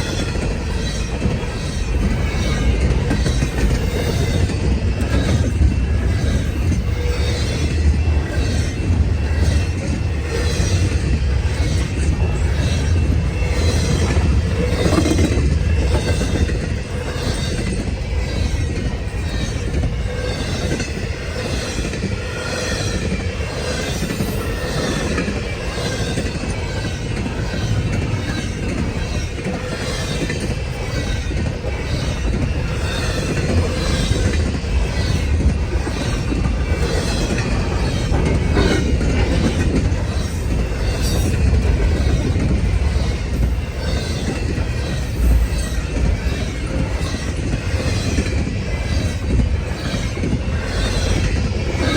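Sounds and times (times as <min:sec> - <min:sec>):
freight train rumble: 0:00.0 - 0:51.9
train wheels clacking over rail joints: 0:00.0 - 0:51.9.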